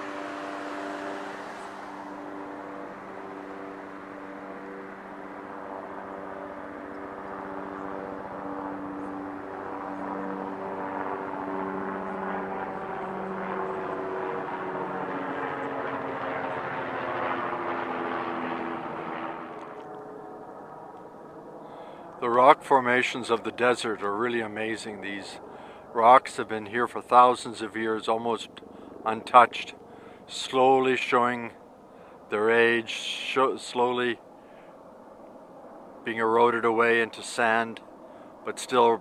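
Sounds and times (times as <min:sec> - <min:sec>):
engine droning: 0:00.0 - 0:39.0.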